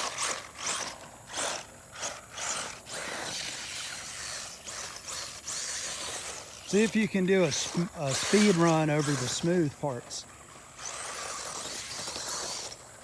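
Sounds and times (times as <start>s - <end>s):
electric motor whirring: 0.0s - 13.0s
tyres churning loose dirt: 0.0s - 13.0s.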